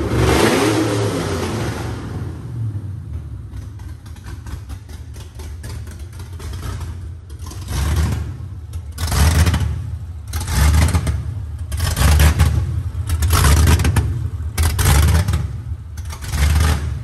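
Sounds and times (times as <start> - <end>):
engine running on open headers: 0.0 - 17.0.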